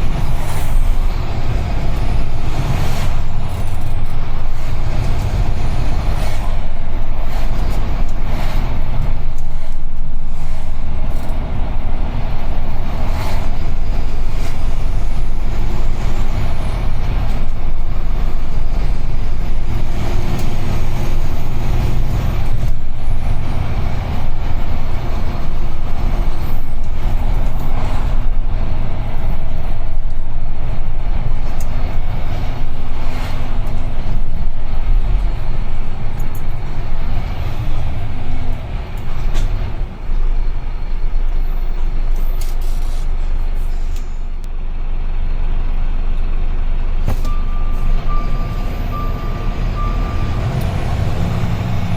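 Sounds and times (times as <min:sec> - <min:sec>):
truck engine and road rumble: 0:00.0 - 0:51.9.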